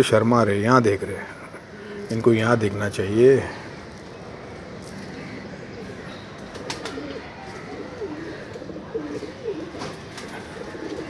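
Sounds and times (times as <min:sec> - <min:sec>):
pigeons cooing: 0:01.3 - 0:02.6, 0:03.2 - 0:11.0.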